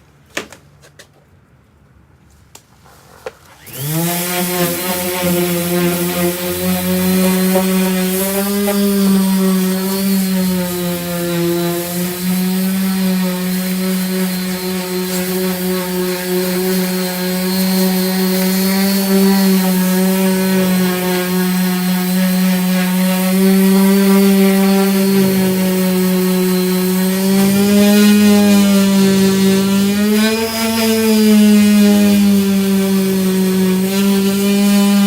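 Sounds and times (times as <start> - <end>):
disc sander rasping: 3.6 - 35.0.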